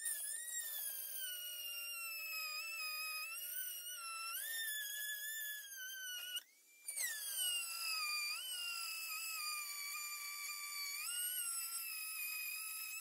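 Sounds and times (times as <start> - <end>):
rotary tool whining through plastic: 0.0 - 13.0.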